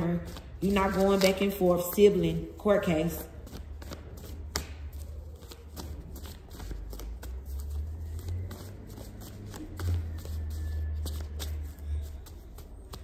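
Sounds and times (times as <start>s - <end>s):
cards being shuffled: 0.0s - 2.3s, 3.2s - 13.0s.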